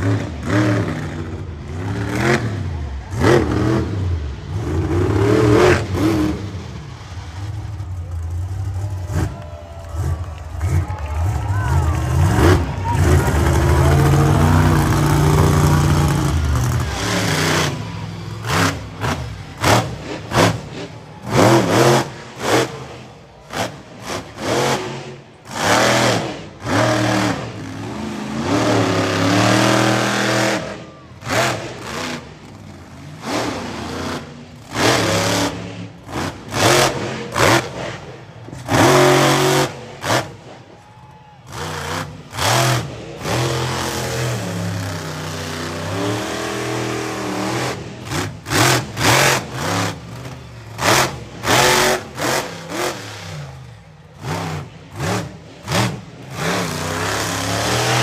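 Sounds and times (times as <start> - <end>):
truck engine revving: 0.0 - 40.6, 41.5 - 58.0.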